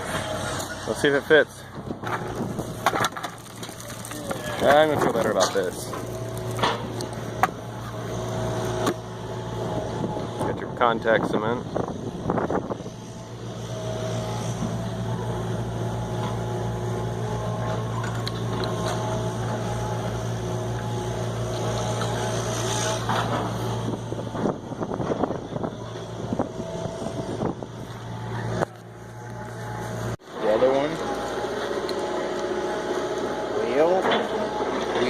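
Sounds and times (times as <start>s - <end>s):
engine humming low: 0.0s - 35.0s.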